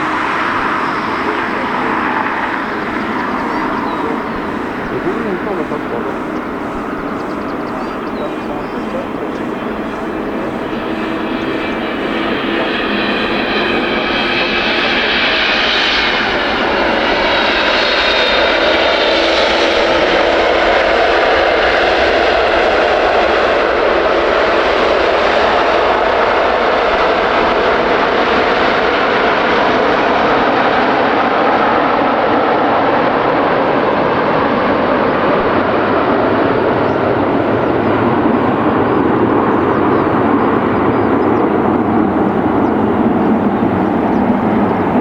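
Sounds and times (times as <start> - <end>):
jet engines passing: 0.0 - 45.0.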